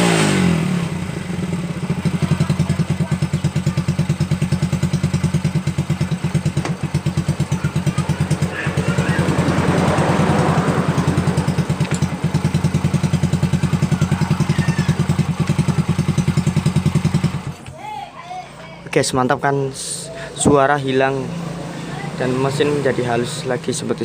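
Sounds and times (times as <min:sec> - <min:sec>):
motorcycle engine idling: 0:00.0 - 0:17.7, 0:19.7 - 0:24.0.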